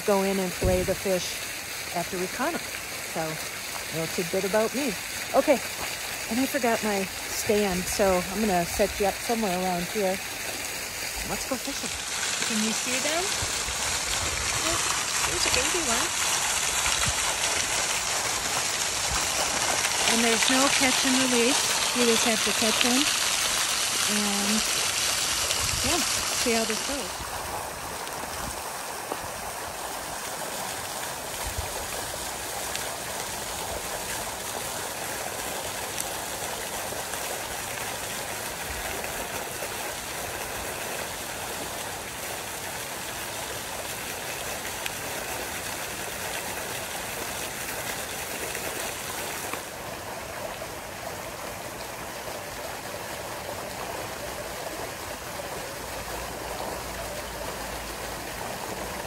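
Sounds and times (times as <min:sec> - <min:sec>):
water spray splashing onto pond: 0:00.0 - 0:59.0.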